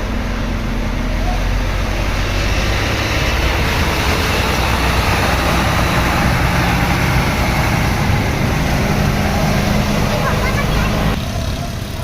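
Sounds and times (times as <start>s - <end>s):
bus diesel engine running: 0.0s - 12.0s
road traffic noise: 0.0s - 12.0s.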